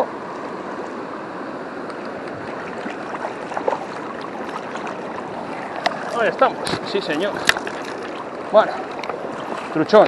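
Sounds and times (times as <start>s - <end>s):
flowing river water: 0.0s - 10.0s.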